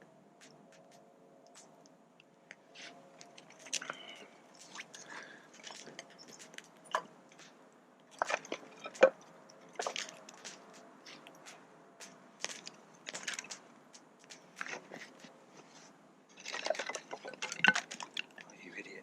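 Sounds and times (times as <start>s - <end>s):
small fire crackling and popping: 0.4s - 19.0s.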